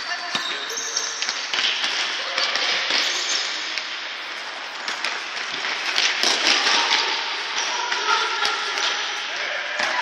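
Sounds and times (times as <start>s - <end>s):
echoing hall noise: 0.0s - 10.0s.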